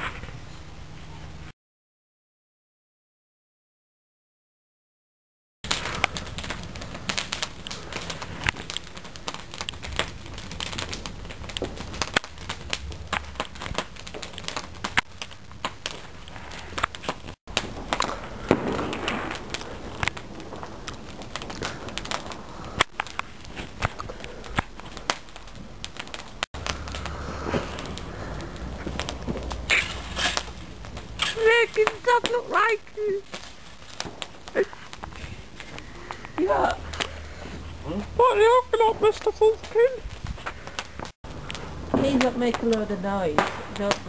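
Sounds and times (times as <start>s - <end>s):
bonfire crackling and popping: 5.6s - 44.0s.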